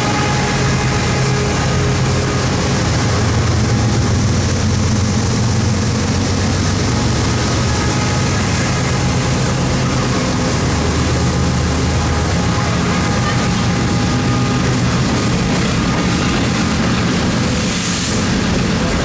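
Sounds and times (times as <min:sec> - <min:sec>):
diesel locomotive engine drone: 0:00.0 - 0:19.0
freight cars rolling on rails: 0:00.0 - 0:19.0.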